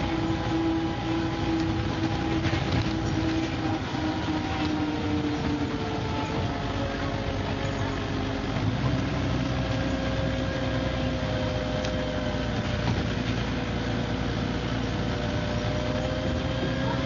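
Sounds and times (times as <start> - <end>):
bus engine rumble: 0.0 - 17.0
steady whine: 0.0 - 17.0.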